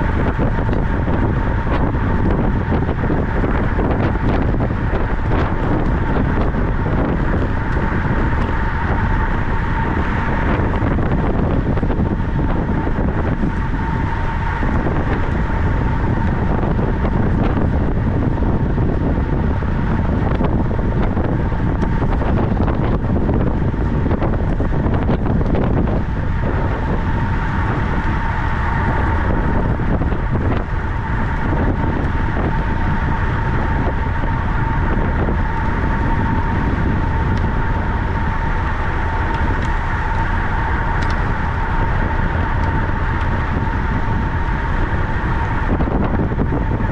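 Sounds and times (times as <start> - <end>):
thin high whine: 0.0 - 46.9
wind rushing over microphone: 0.0 - 46.9.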